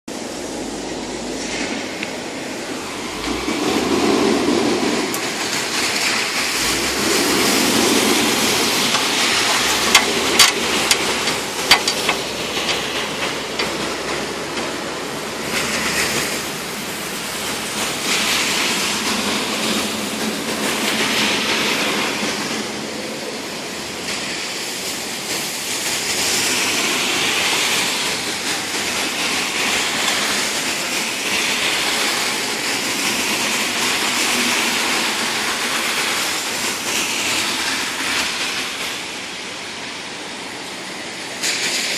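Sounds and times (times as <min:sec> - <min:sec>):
rain pouring: 0:00.1 - 0:41.9.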